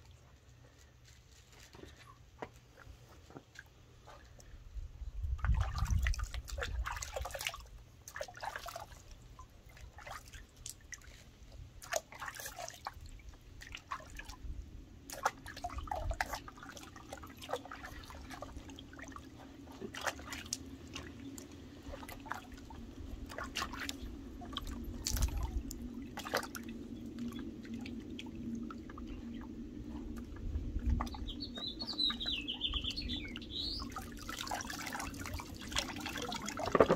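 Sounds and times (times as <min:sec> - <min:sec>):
low steady hum: 0:00.0 - 0:36.9
water splashing in a plastic tub: 0:05.2 - 0:36.9.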